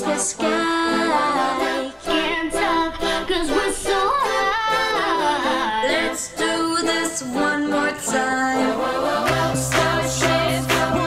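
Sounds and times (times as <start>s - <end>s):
unaccompanied singing voices: 0.0s - 11.0s.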